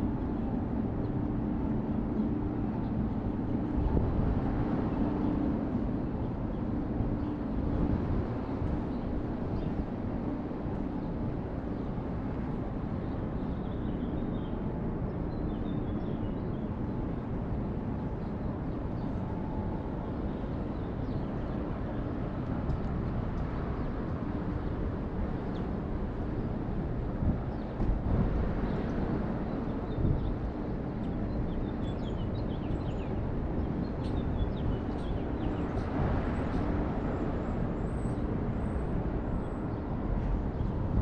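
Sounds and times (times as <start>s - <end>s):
low city rumble: 0.0s - 41.0s.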